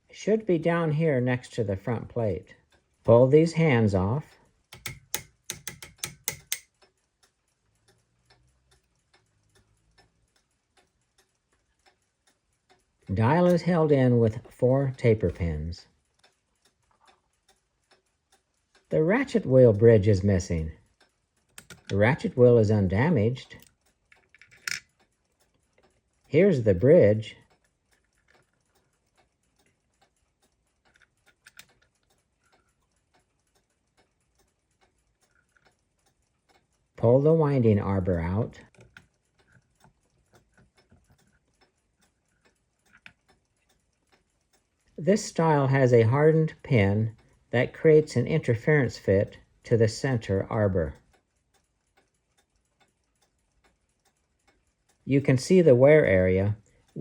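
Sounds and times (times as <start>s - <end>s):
faint clock ticking: 0.0s - 57.0s
sharp metal clicks and taps: 4.2s - 19.6s, 20.5s - 57.0s.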